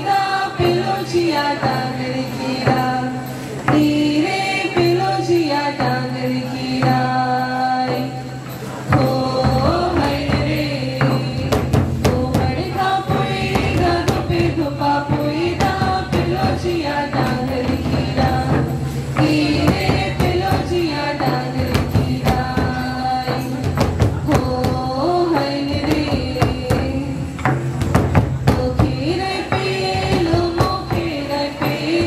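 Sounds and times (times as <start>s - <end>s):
folk dance singing: 0.0s - 32.0s
hand drums beating: 0.0s - 32.0s.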